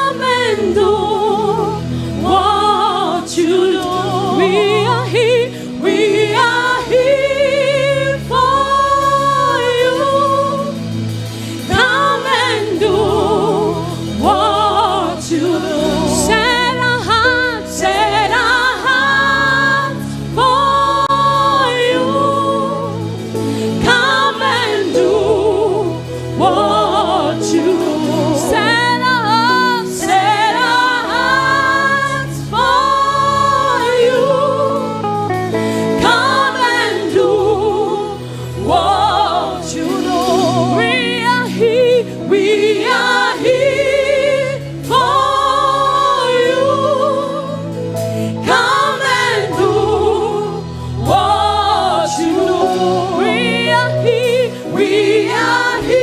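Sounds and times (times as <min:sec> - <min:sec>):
instrumental accompaniment with bass: 0:00.0 - 0:56.0
person singing with vibrato: 0:00.0 - 0:56.0.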